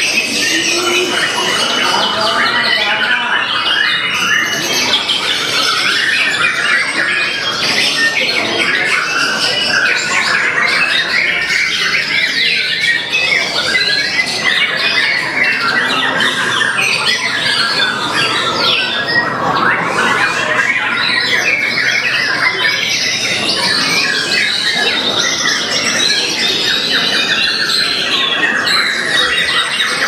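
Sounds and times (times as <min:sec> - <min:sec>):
caged birds singing: 0:00.0 - 0:30.0.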